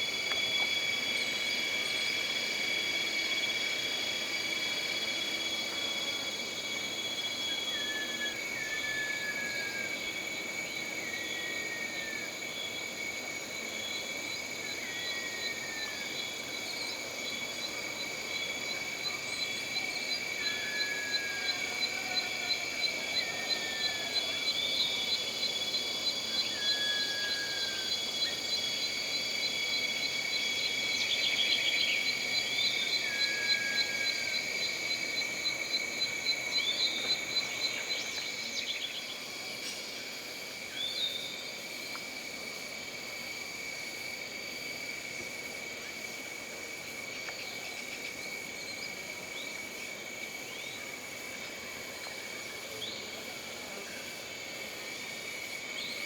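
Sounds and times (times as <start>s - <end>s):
insect chorus: 0.0s - 56.0s
pulsing insect chirp: 0.0s - 56.0s.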